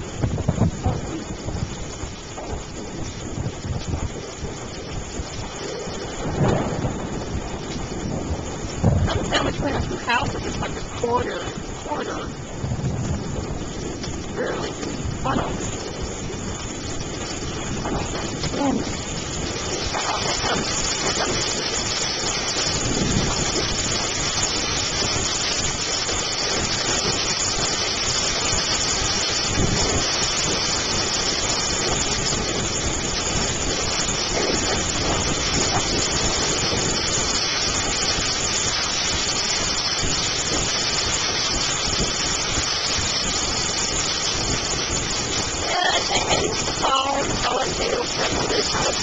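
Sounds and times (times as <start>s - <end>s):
heavy rain and hail falling: 0.0s - 49.0s.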